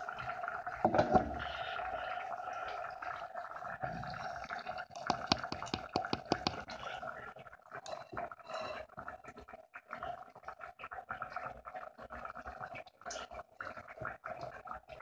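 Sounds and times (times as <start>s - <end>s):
broth bubbling at the boil: 0.0s - 15.0s
bubbles popping and clicking: 0.0s - 15.0s.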